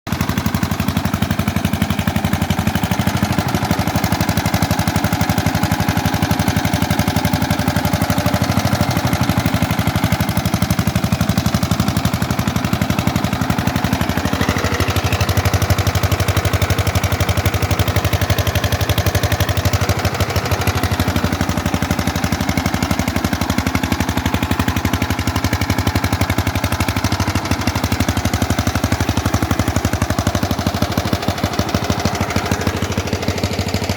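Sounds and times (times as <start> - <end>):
diesel generator running: 0.1 - 33.9.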